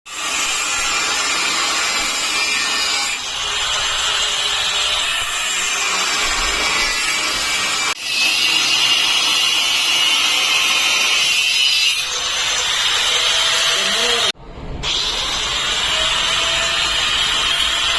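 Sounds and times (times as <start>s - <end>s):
angle grinder on steel: 0.1s - 17.9s.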